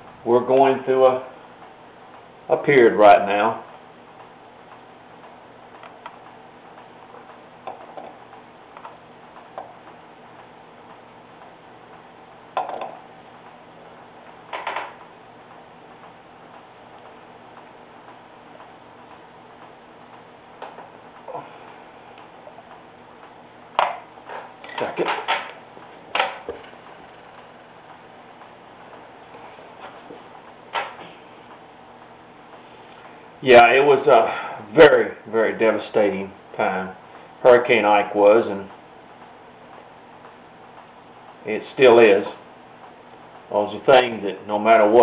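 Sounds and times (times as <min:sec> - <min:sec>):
steady low hiss: 0:00.0 - 0:45.0.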